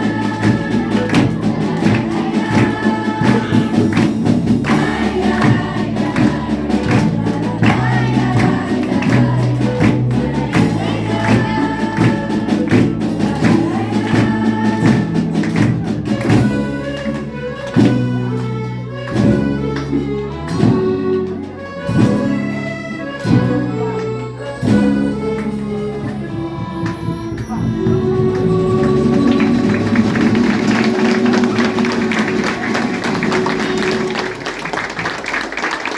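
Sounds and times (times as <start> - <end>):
accented orchestral chords: 0.0 - 35.9
orchestra playing: 0.0 - 35.9
percussion: 0.0 - 35.9.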